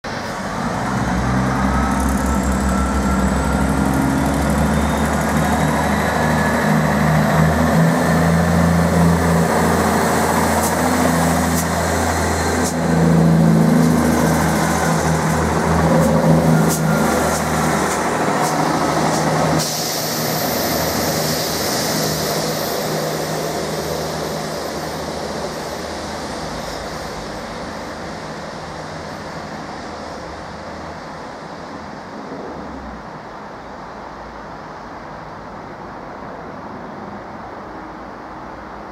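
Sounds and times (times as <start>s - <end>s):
diesel engines running: 0.1s - 33.0s.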